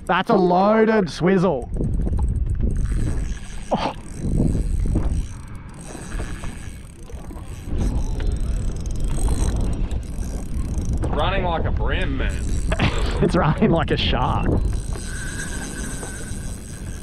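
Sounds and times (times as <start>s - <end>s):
steady low rumble: 0.0s - 17.0s
fishing reel drag clicking: 0.6s - 13.3s, 14.5s - 17.0s.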